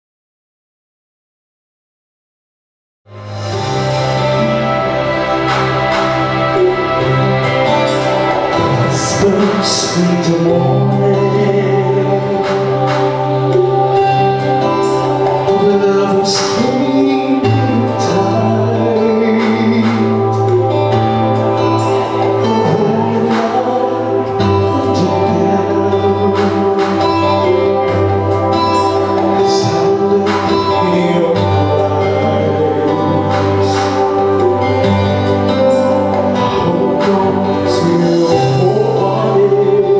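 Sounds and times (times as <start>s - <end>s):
instrumental accompaniment: 3.1s - 39.9s
long held bass notes: 3.1s - 39.9s
man singing into microphone: 6.6s - 35.6s, 36.3s - 39.9s.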